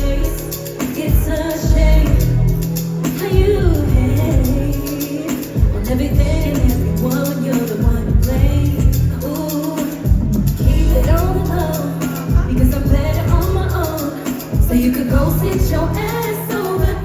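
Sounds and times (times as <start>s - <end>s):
heavy pulsing bass: 0.0s - 17.0s
live band playing: 0.0s - 17.0s
woman singing: 0.0s - 17.0s.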